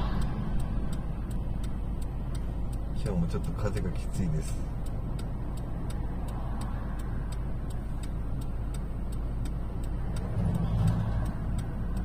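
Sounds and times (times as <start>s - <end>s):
engine low rumble: 0.0s - 12.0s
road noise inside car: 0.0s - 12.0s
turn signal ticking: 0.0s - 12.0s.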